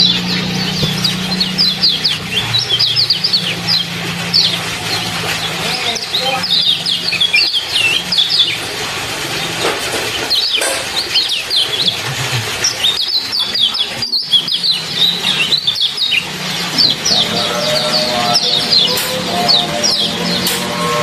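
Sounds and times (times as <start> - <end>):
trickle of running water: 0.0 - 21.0.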